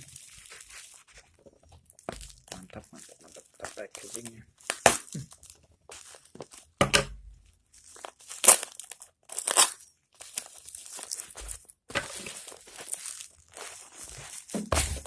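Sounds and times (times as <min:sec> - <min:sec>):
plastic wrap ripping: 0:00.0 - 0:01.2, 0:01.8 - 0:06.8, 0:07.7 - 0:15.0
plastic wrap crinkling: 0:00.0 - 0:15.0.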